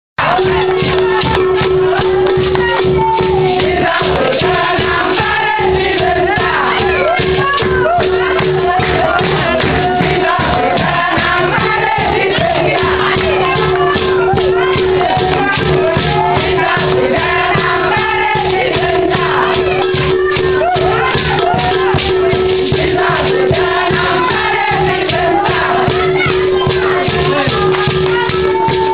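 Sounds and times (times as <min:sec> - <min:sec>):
rhythmic percussion: 0:00.2 - 0:28.9
voices singing together: 0:00.2 - 0:28.9.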